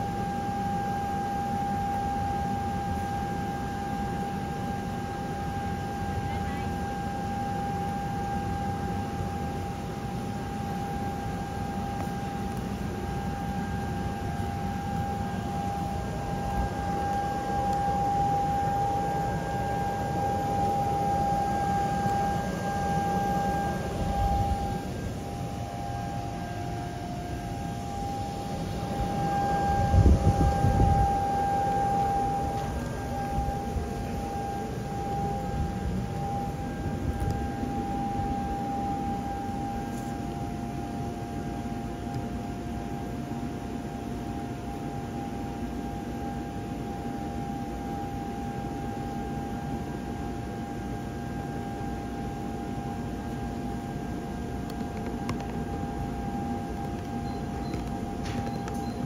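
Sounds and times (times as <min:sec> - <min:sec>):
air blower whining: 0:00.0 - 0:59.0.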